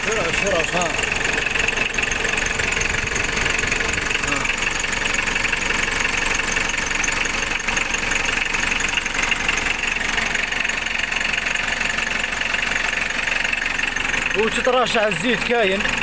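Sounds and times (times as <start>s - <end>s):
diesel engine idling rough: 0.0s - 16.0s.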